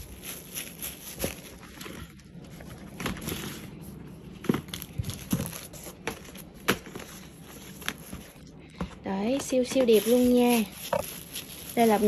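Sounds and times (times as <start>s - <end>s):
paper and plastic rustling: 0.0s - 12.0s.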